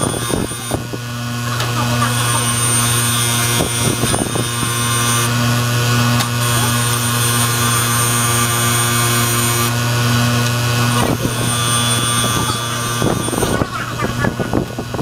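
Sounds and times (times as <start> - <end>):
bench grinder humming: 0.0 - 15.0.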